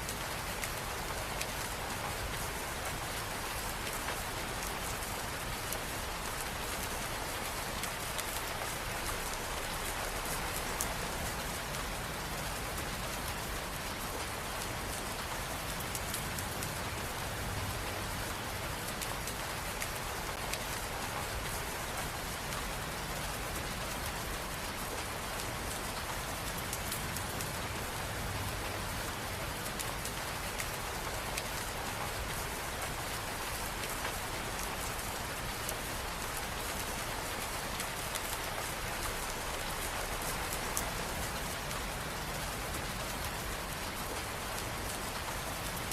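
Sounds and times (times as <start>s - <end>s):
rain on hard surfaces: 0.0s - 45.9s.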